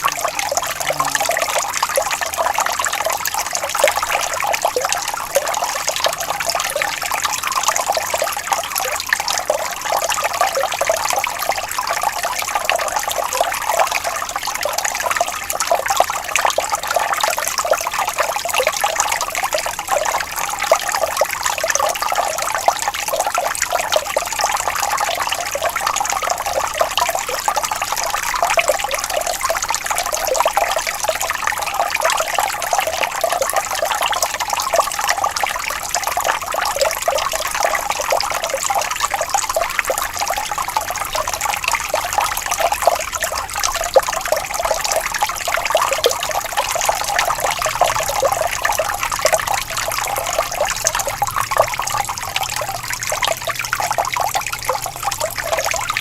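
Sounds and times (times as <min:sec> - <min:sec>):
water flowing and trickling: 0:00.0 - 0:56.0.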